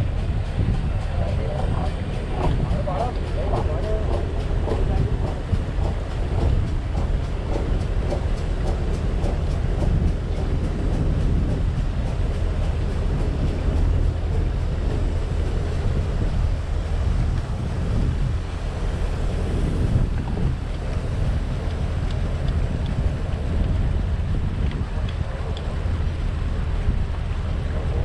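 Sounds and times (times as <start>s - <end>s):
boat engine humming: 0.0s - 28.0s
wind buffeting microphone: 0.0s - 28.0s.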